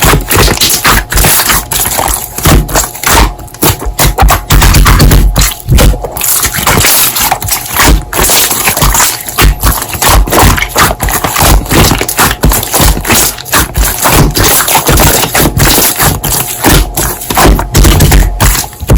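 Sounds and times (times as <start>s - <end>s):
slime squished by hand: 0.0s - 18.9s.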